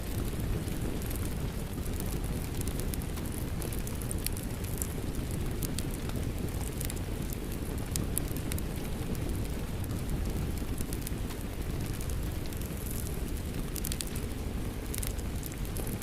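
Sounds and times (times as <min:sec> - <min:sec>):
rain: 0:00.0 - 0:16.0
wood fire crackling: 0:00.0 - 0:16.0.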